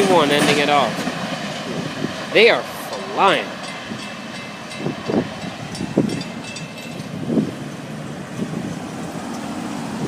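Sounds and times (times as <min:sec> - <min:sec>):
freight cars rumbling past: 0:00.0 - 0:10.0
wind on microphone: 0:01.0 - 0:10.0.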